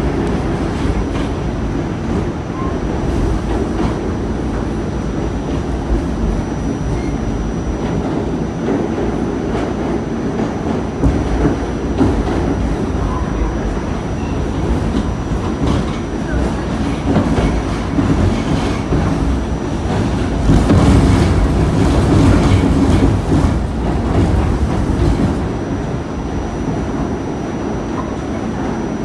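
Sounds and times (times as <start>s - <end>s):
subway car steady rumble: 0.0s - 29.0s.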